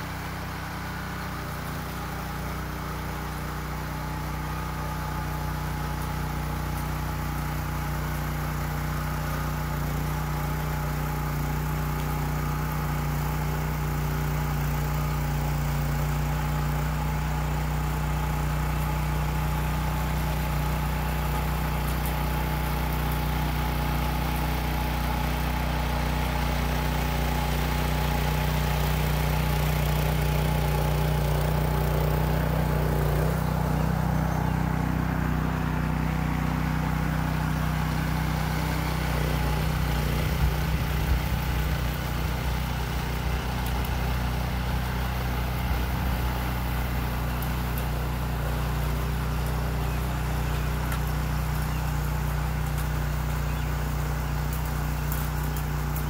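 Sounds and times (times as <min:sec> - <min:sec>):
tiller engine running: 0:00.0 - 0:56.0.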